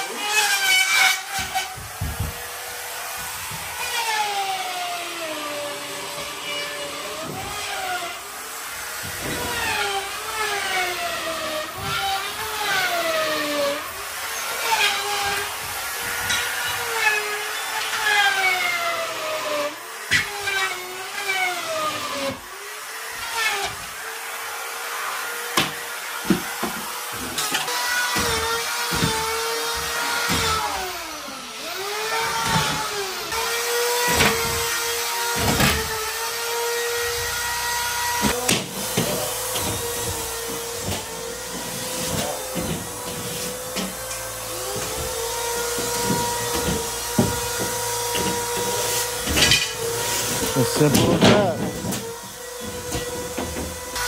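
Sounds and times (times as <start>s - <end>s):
power drill motor whining: 0.0s - 54.0s.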